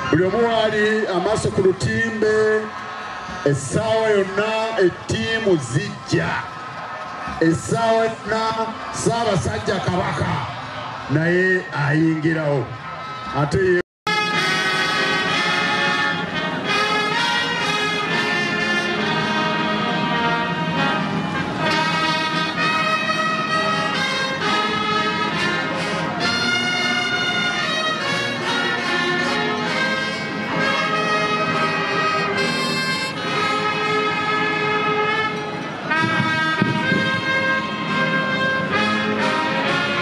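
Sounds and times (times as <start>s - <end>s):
brass band playing an anthem: 0.0s - 11.7s, 14.1s - 40.0s.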